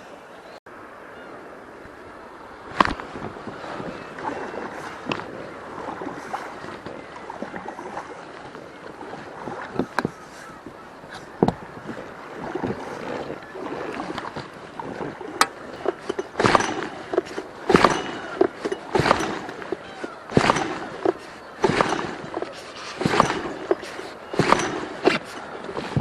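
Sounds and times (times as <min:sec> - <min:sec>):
oars splashing and knocking: 0:01.8 - 0:26.0.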